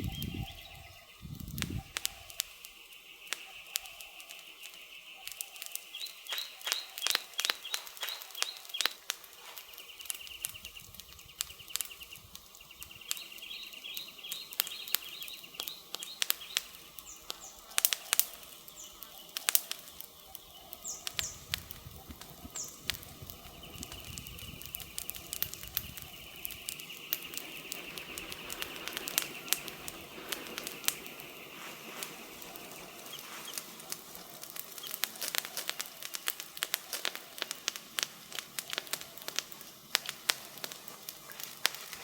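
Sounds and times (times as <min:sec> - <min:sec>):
burning wood popping: 0:00.0 - 0:42.0
campfire crackling: 0:00.0 - 0:42.0.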